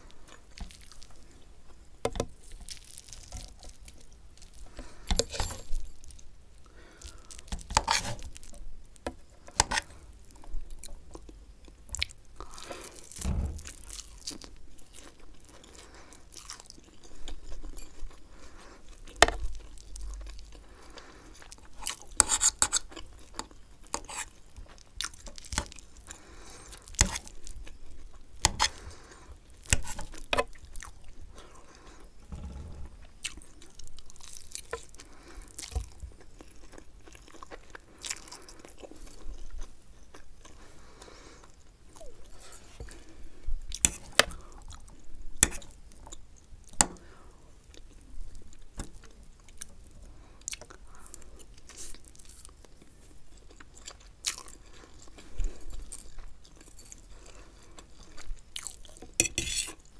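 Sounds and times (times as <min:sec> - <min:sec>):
wet chewing: 0:09.4 - 0:32.2, 0:33.0 - 0:59.9.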